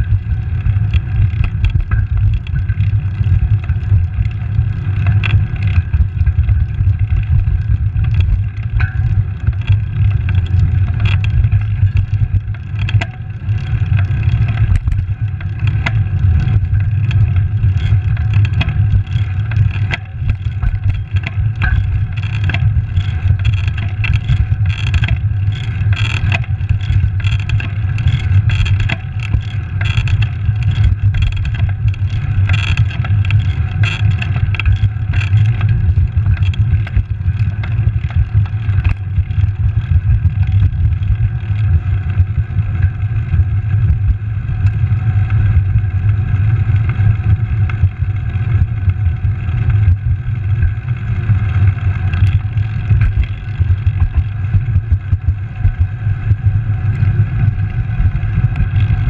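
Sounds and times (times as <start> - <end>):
bicycle knocks and rattles: 0.0 - 59.0
tyre noise on asphalt: 0.0 - 59.0
wind rushing over microphone: 0.0 - 59.0.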